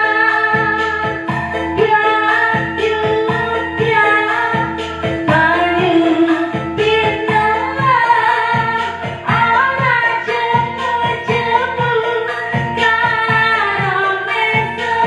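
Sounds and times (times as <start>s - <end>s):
backing music with steady beat: 0.0s - 15.0s
woman singing: 0.0s - 15.0s.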